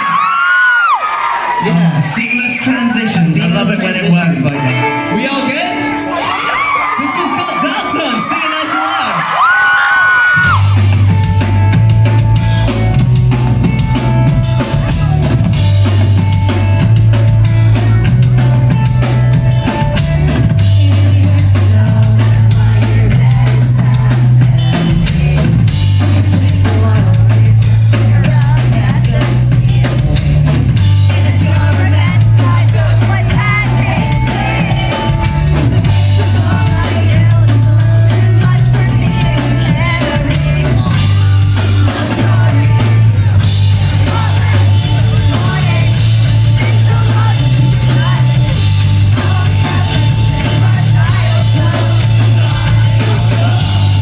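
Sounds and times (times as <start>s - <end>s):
drum kit: 2.6s - 54.0s
electric guitars: 2.9s - 54.0s
bass line: 9.4s - 54.0s.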